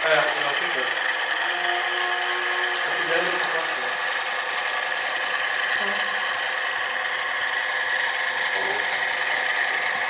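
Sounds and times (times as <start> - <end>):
model train motor whine: 0.0 - 10.0.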